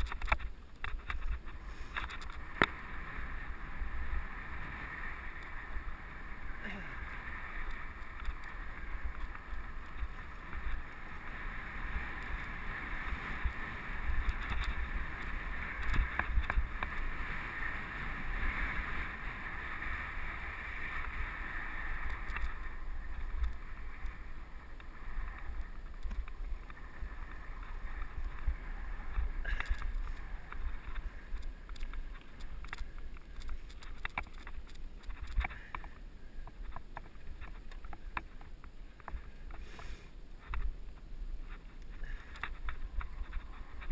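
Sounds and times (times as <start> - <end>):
bike clicks and rattles: 0.0 - 43.9.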